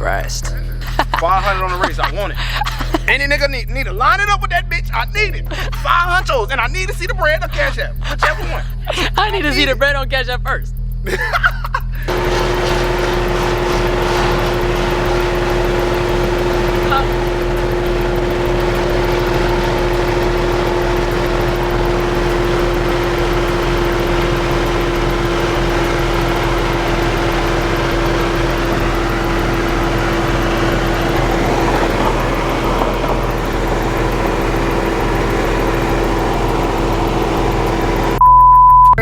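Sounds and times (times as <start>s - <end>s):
car engine droning: 0.0s - 10.2s, 12.1s - 38.2s.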